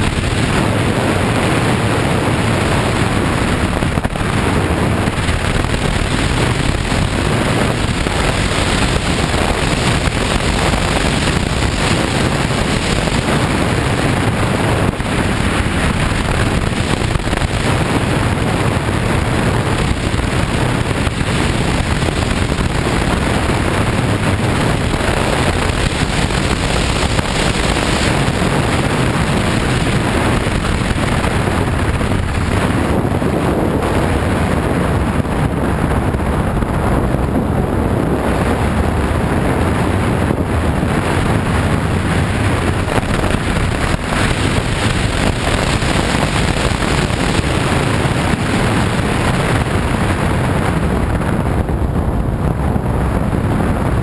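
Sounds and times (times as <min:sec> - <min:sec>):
motorcycle engine: 0:00.0 - 0:51.7
wind noise on microphone: 0:00.0 - 0:54.0.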